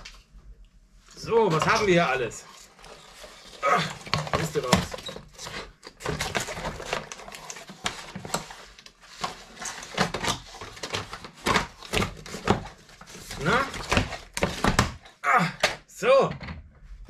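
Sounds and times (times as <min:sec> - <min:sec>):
cardboard and plastic rustling: 0:01.1 - 0:15.1.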